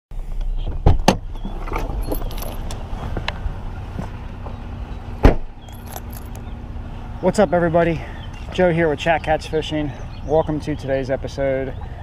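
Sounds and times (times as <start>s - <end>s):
vehicle engine rumble: 0.1s - 12.0s.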